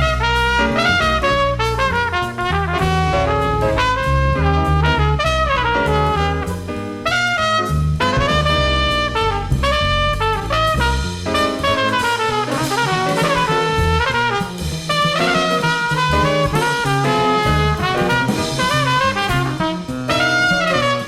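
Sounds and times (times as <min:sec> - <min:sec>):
drum kit: 0:00.0 - 0:21.0
horn playing jazz melody: 0:00.0 - 0:21.0
walking bass: 0:00.0 - 0:21.0.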